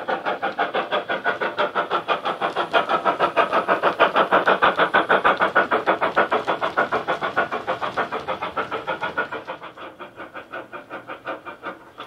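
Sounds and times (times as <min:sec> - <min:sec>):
model steam locomotive chuffs: 0:00.0 - 0:12.0.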